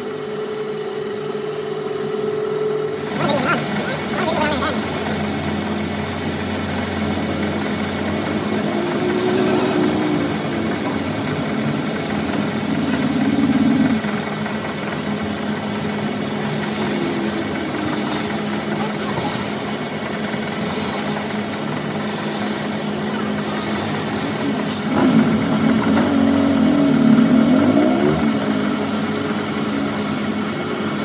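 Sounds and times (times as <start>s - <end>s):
machine humming: 0.0s - 31.0s
pulsing hiss: 0.1s - 31.0s.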